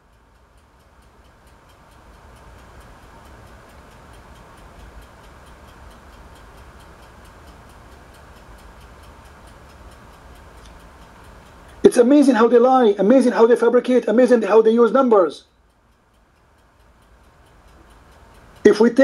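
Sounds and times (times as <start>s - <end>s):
background hiss: 0.0s - 19.0s
rapid regular ticking: 0.0s - 19.0s.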